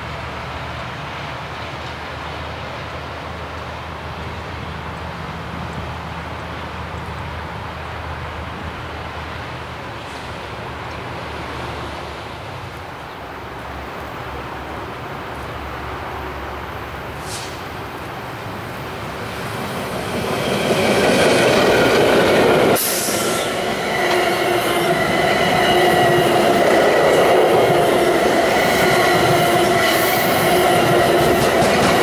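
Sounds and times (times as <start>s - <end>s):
diesel train passing: 0.0s - 32.0s
train wheel noise: 0.0s - 32.0s.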